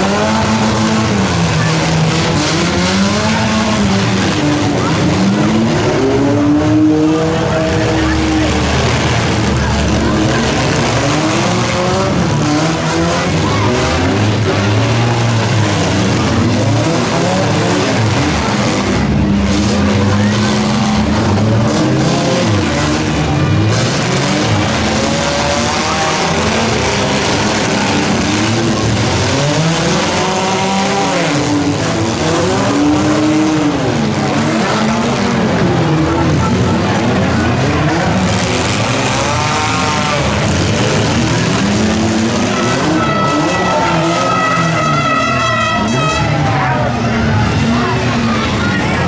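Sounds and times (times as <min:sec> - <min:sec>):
car engines revving hard: 0:00.0 - 0:49.0.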